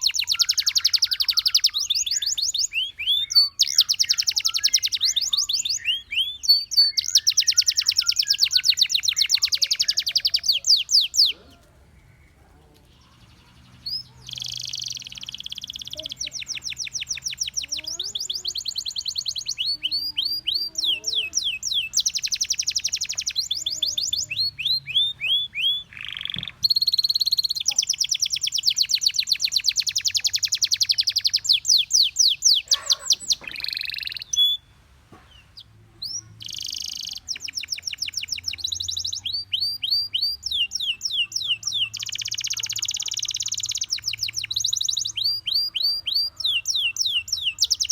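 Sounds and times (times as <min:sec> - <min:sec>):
canary singing fast trills: 0:00.0 - 0:47.9.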